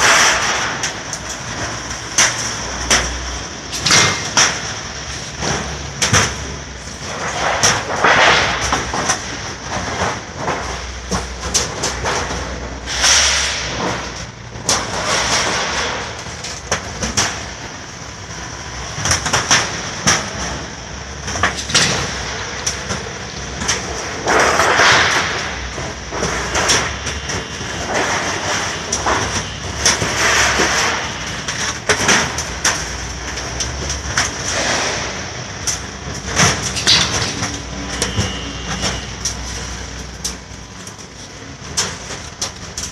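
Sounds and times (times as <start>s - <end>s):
metal clanks and rattles: 0.0s - 18.3s, 18.9s - 42.9s
roll-forming machine humming: 0.0s - 42.9s.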